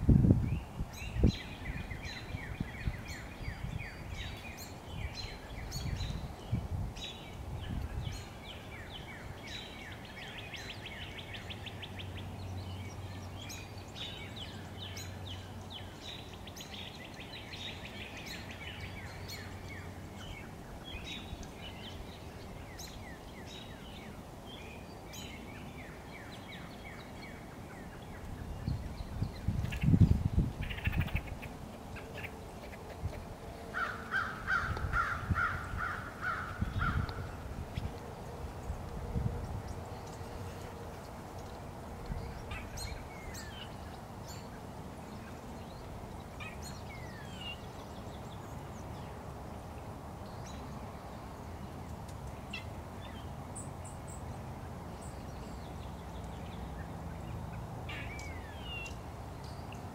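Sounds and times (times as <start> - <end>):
songbirds trilling and chirping: 0.0 - 59.9.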